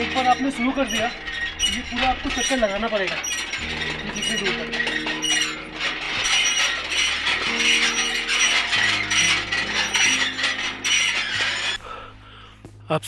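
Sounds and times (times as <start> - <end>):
prayer wheels rattling: 0.0 - 12.2.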